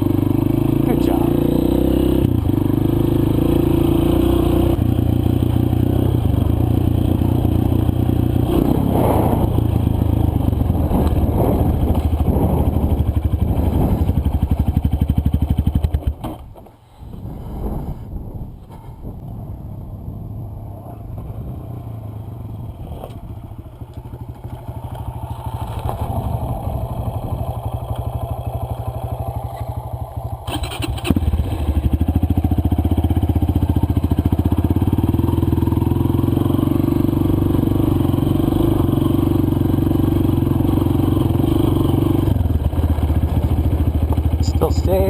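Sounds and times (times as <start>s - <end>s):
dirt bike engine running: 0.0s - 16.4s, 18.7s - 45.0s.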